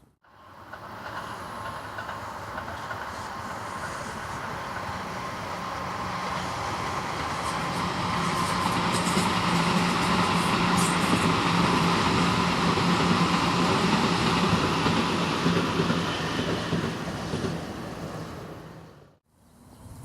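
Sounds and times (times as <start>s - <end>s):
electric train rumbling past: 0.2s - 19.2s.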